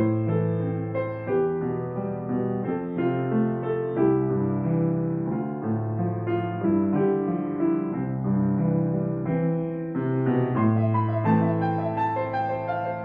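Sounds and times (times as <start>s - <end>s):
solo grand piano piece: 0.0s - 13.0s.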